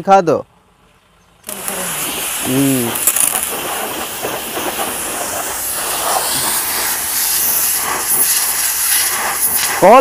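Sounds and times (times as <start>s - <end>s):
pressure washer pump running: 1.4s - 10.0s
water spray hissing: 1.4s - 10.0s.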